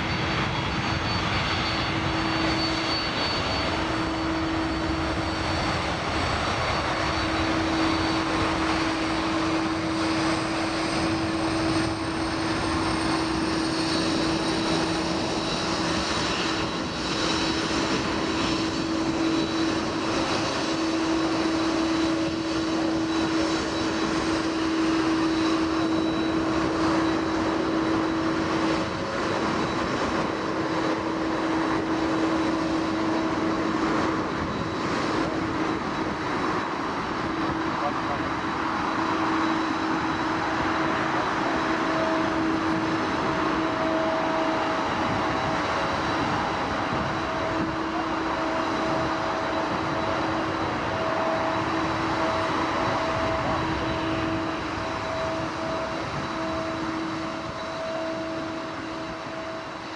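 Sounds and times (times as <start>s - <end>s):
high engine whine: 0.0s - 59.9s
jet engines droning: 0.0s - 59.9s.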